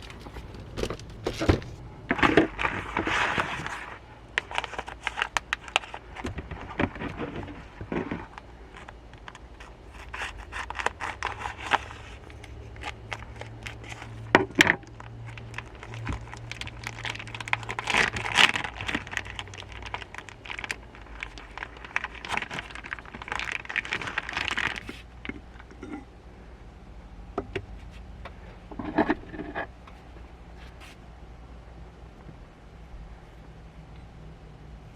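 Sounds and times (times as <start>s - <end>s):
objects scraping and crinkling: 0.0s - 26.1s, 27.7s - 31.1s.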